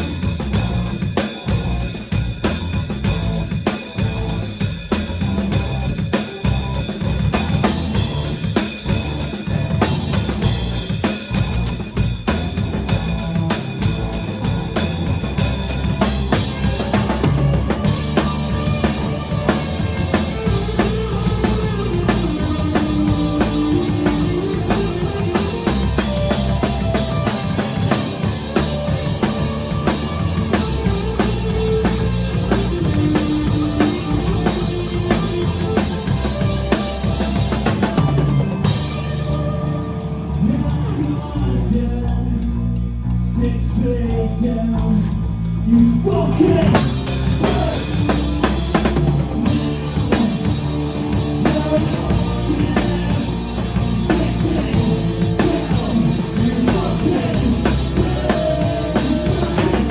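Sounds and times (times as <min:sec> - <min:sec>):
bass guitar: 0:00.0 - 0:59.9
drum kit and cymbals: 0:00.0 - 0:59.9
electric guitar: 0:00.0 - 0:59.9.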